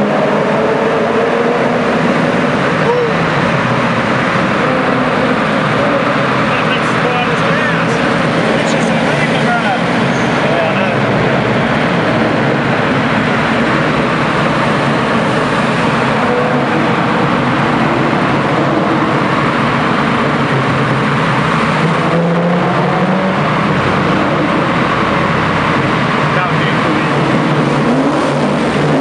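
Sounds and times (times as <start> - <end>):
car engines droning in tunnel: 0.0 - 29.0.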